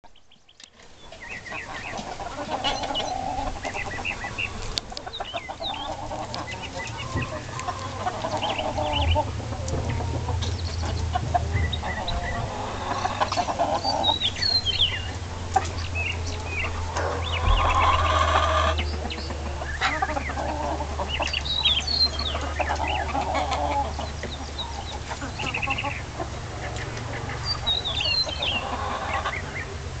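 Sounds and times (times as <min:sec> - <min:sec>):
chickens clucking and calling: 0:00.0 - 0:30.0.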